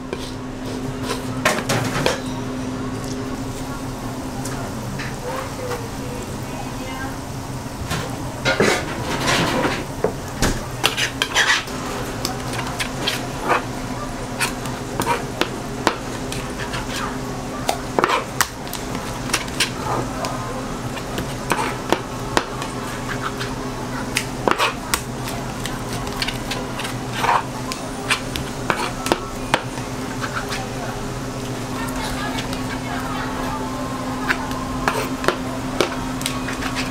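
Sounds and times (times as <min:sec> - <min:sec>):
low machine hum: 0:00.0 - 0:36.9.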